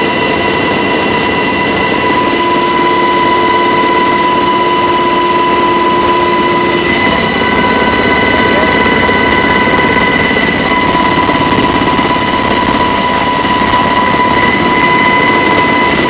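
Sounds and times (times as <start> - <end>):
helicopter rotor and engine noise: 0.0 - 16.0
high whine: 0.0 - 16.0.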